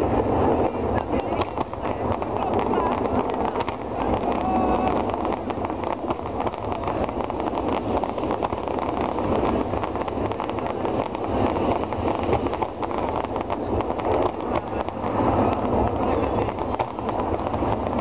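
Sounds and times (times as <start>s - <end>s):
fireworks crackling: 0.0s - 18.0s
fireworks heavy bangs: 0.0s - 18.0s.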